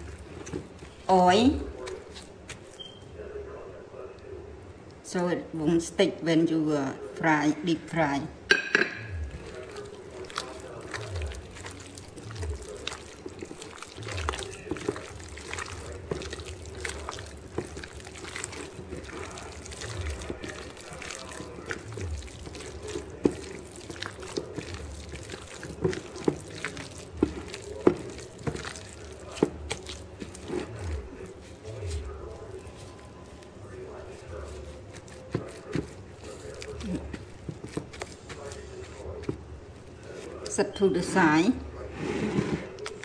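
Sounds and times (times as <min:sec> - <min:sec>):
gloved hand squishing wet chicken: 0:00.0 - 0:03.1, 0:09.2 - 0:41.0, 0:42.7 - 0:43.0.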